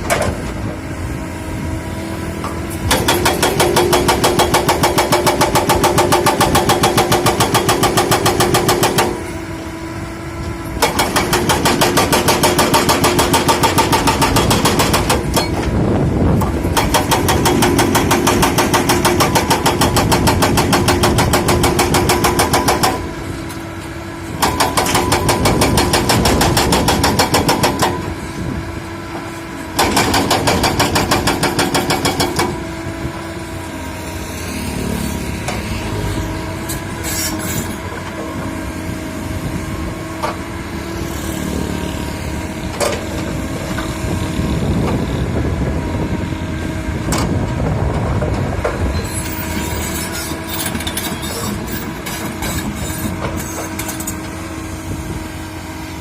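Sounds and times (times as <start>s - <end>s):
excavator diesel engine hum: 0.0s - 56.0s.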